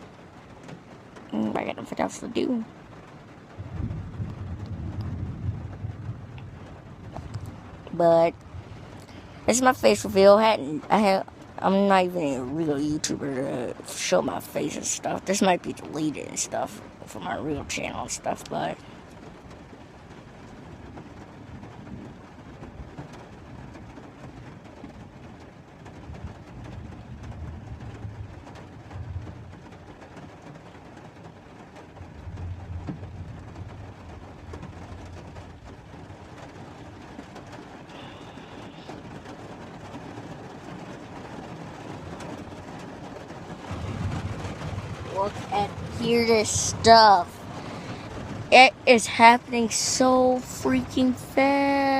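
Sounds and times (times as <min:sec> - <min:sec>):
heavy rain falling: 0:00.0 - 0:51.9
low rumbles: 0:00.0 - 0:51.9.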